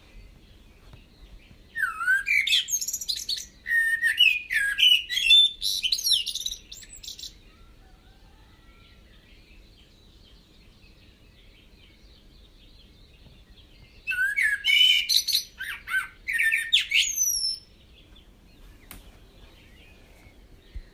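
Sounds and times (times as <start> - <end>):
birds calling and warbling: 0.0 - 20.9.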